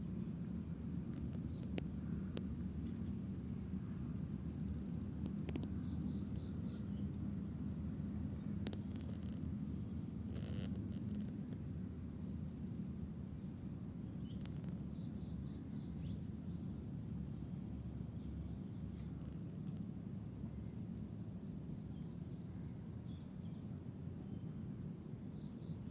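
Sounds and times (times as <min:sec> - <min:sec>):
crickets trilling: 0:00.0 - 0:25.9
faint high whine: 0:00.0 - 0:25.9.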